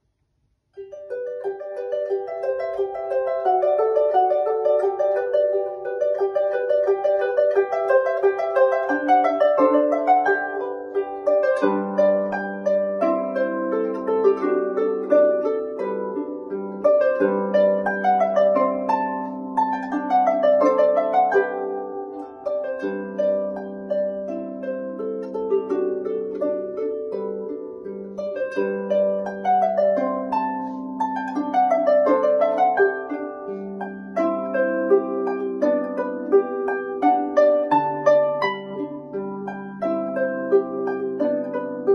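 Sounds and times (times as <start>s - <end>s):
harp plucked melody: 0.8s - 41.9s.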